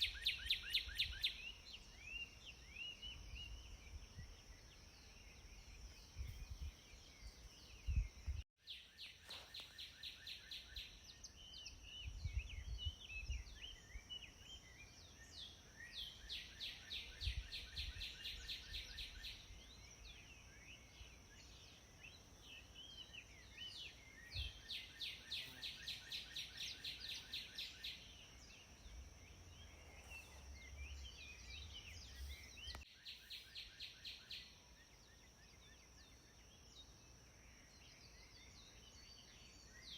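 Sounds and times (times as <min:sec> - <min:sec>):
wild birds singing: 0:00.0 - 0:39.9.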